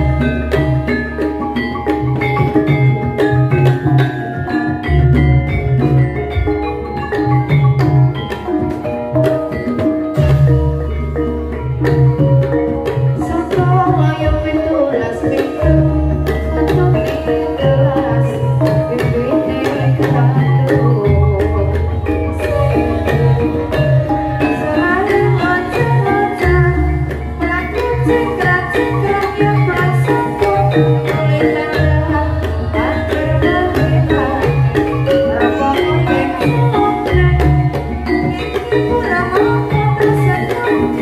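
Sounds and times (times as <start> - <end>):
metallophones striking ringing notes: 0.0 - 41.0.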